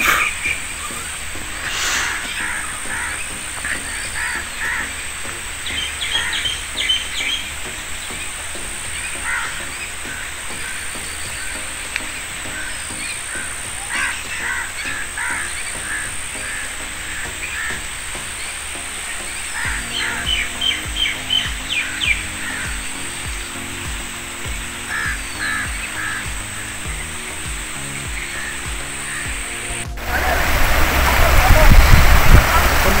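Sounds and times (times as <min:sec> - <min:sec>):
background hiss: 0:00.0 - 0:33.0
birds calling: 0:00.0 - 0:33.0.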